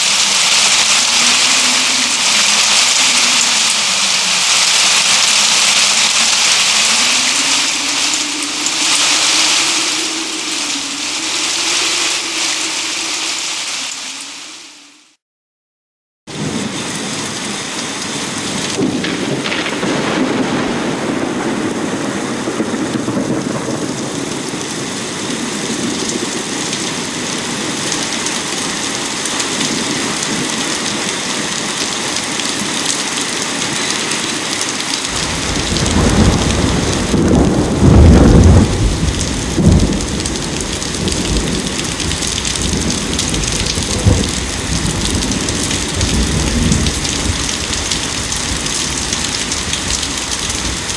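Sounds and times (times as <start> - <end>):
thunder rumbling: 0.0 - 14.4, 16.3 - 28.5, 33.1 - 50.9
steady rain falling: 0.0 - 15.2, 16.3 - 50.9.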